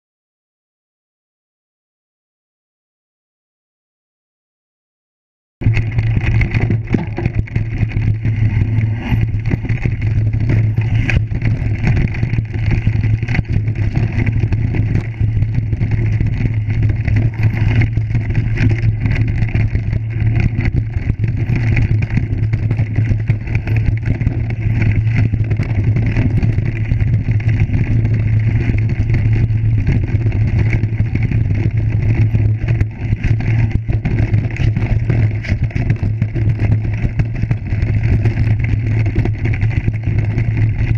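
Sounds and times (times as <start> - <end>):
bike rattling over stones: 5.6 - 40.9
low drone with noisy rush: 5.6 - 40.9.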